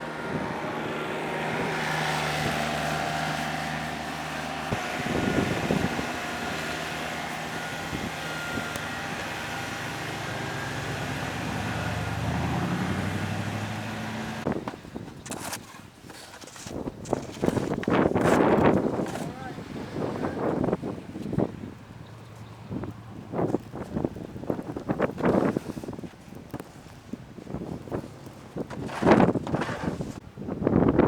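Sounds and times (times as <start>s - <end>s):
vehicle engine running: 0.0s - 14.9s, 17.1s - 30.2s
wind blowing: 0.0s - 31.0s
wind buffeting microphone: 0.0s - 31.0s.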